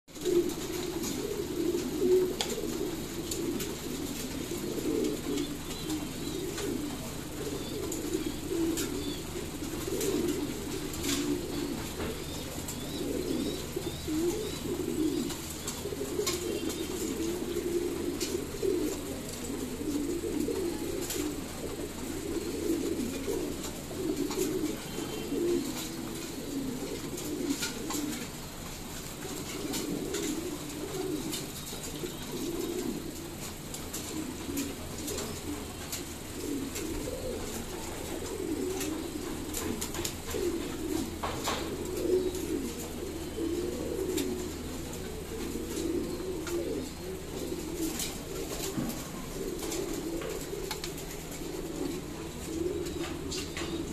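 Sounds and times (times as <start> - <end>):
pigeons cooing: 0.1 - 53.9.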